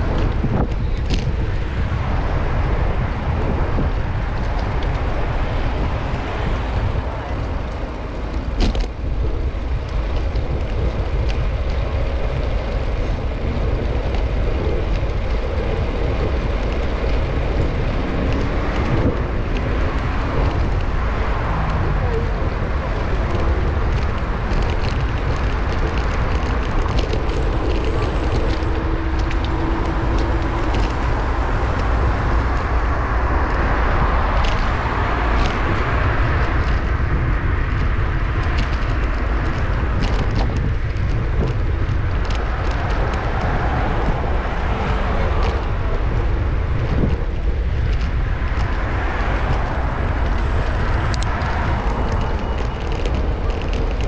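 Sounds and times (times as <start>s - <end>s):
traffic noise: 0.0s - 54.0s
wind buffeting microphone: 0.0s - 54.0s.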